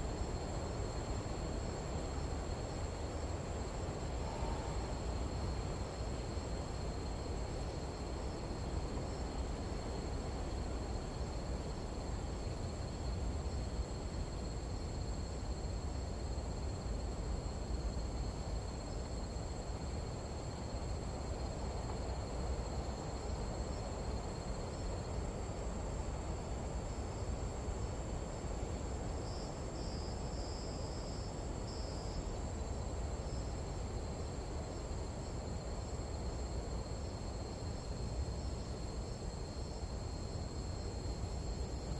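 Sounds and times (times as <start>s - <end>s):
night insects trilling: 0.0s - 41.9s.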